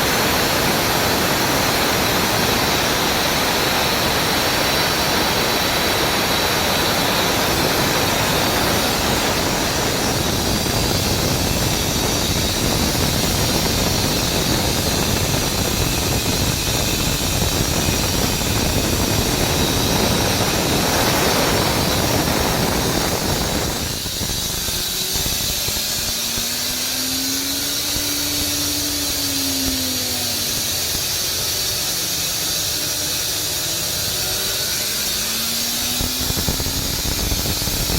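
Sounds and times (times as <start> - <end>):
air compressor rushing air: 0.0 - 37.9
motor whine: 0.0 - 37.9.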